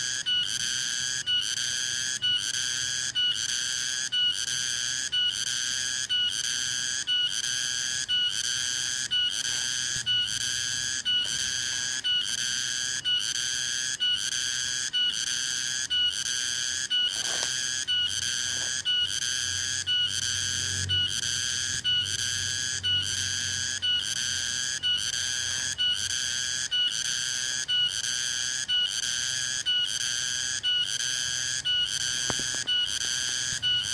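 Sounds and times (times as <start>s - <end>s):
cicada singing: 0.0s - 33.9s.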